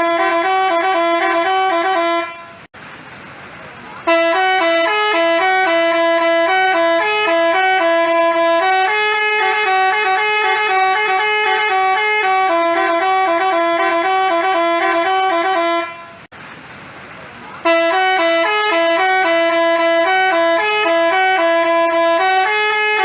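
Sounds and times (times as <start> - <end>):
multi-tone bus horn tune: 0.0 - 2.7, 4.0 - 16.3, 17.6 - 23.0.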